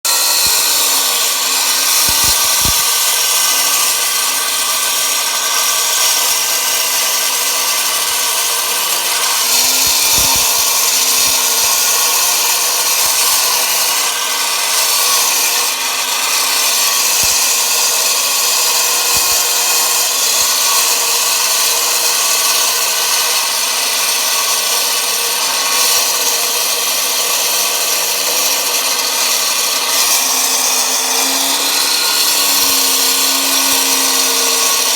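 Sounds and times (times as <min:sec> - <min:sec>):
saw grinding through concrete: 0:00.0 - 0:34.9.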